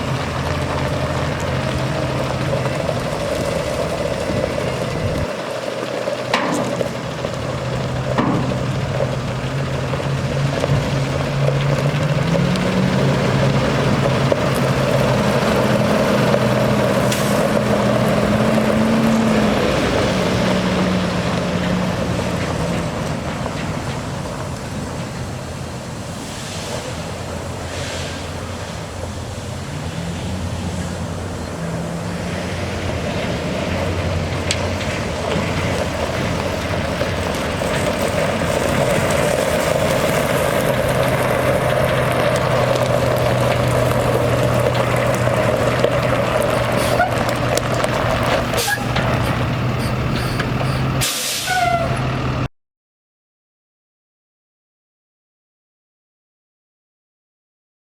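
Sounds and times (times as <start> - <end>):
diesel truck engine running: 0.0 - 52.5.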